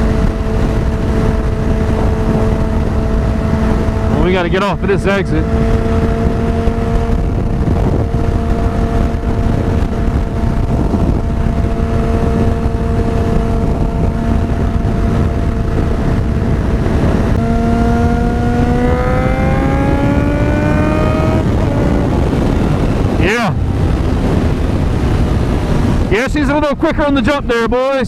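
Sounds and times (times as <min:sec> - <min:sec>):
motorcycle engine accelerating: 0:00.0 - 0:27.6
wind rumble on microphone: 0:00.0 - 0:28.0.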